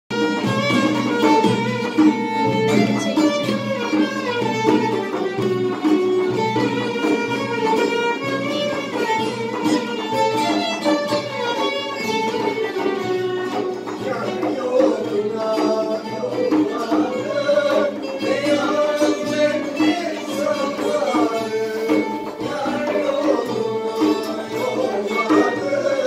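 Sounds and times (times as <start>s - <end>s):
violins playing melody: 0.1s - 14.6s, 15.9s - 26.0s
plucked guitar accompaniment: 0.1s - 26.0s.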